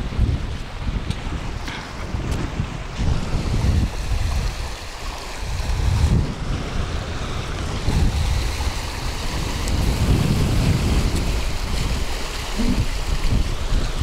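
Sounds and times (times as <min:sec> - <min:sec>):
wind buffeting microphone: 0:00.0 - 0:14.0
river water rushing: 0:00.1 - 0:14.0.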